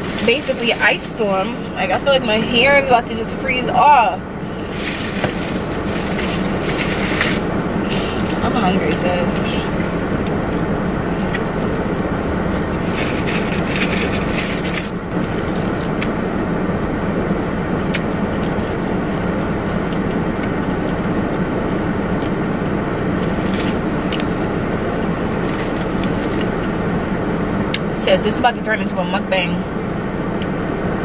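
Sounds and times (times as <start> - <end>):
crackling scraping noises: 0.0 - 20.8, 23.2 - 27.9
car cabin road rumble: 0.0 - 31.0.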